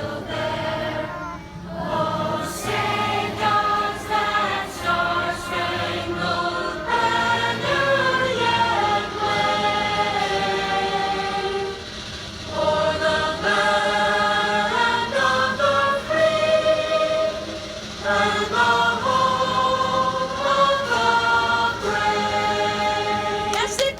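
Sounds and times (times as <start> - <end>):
children singing in unison: 0.0 - 23.9.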